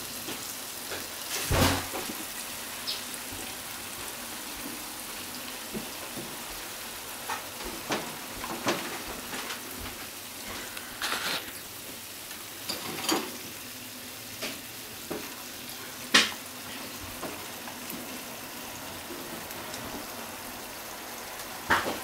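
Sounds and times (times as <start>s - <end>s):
tofu sizzling in a frying pan: 0.0s - 22.0s.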